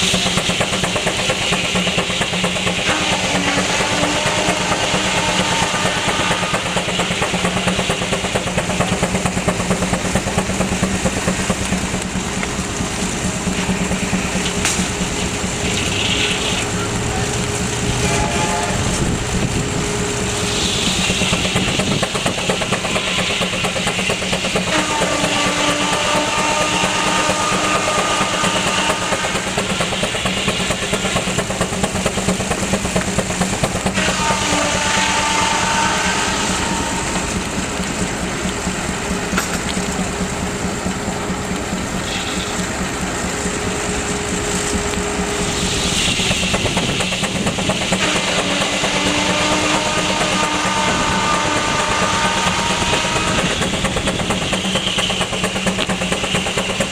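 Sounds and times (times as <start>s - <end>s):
sawmill machinery rattling: 0.0s - 56.9s
steam traction engine running: 0.0s - 56.9s.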